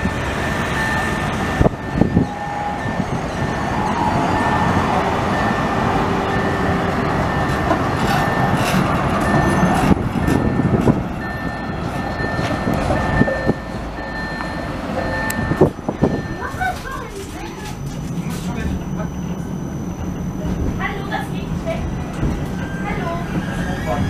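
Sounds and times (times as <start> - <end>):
tram wheels rumbling on track: 0.0 - 24.0.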